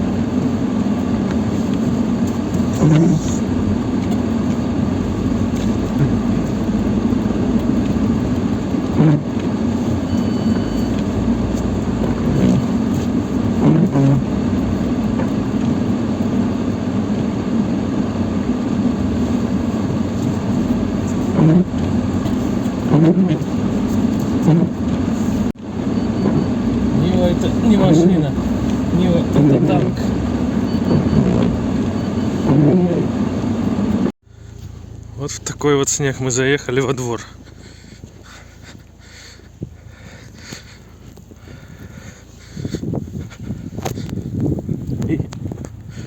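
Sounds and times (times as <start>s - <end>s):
car engine running under load: 0.0s - 46.0s.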